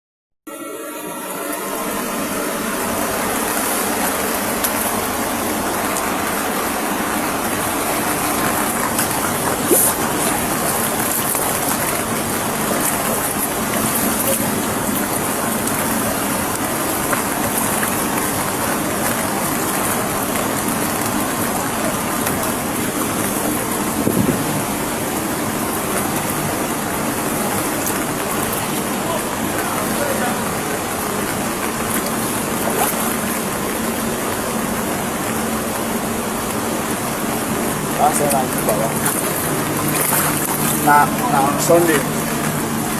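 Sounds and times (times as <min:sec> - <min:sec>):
heavy rain and rushing water: 0:00.5 - 0:42.9.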